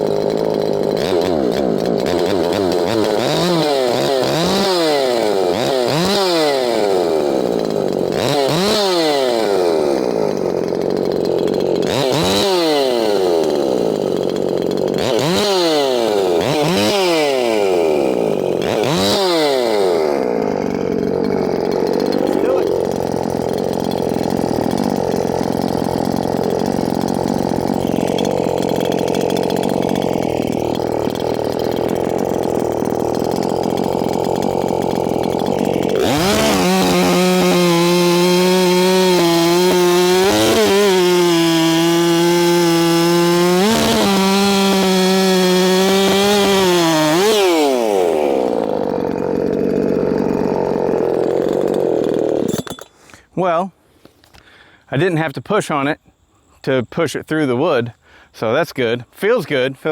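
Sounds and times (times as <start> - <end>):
chainsaw cutting log: 0.0 - 53.3.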